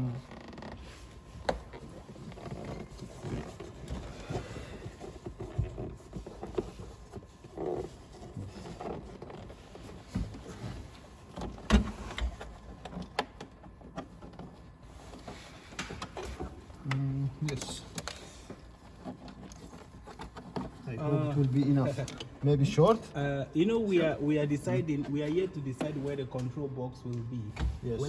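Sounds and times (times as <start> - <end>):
hands rustling behind plastic trim: 0.0 - 23.2.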